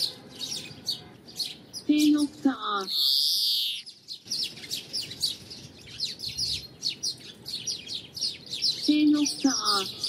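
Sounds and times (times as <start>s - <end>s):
bird twittering song: 0.0s - 10.0s.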